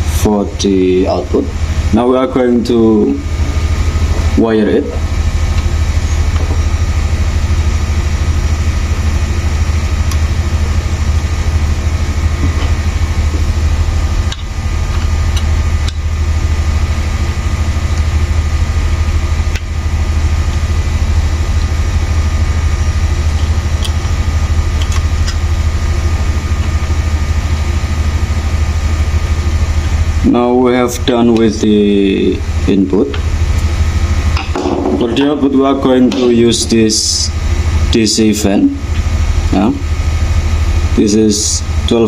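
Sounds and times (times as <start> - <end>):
mechanical hum with low drone: 0.0 - 42.0.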